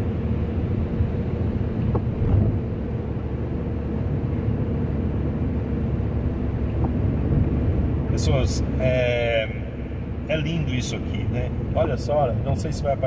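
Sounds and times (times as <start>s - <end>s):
car driving on wet road: 0.0s - 13.0s.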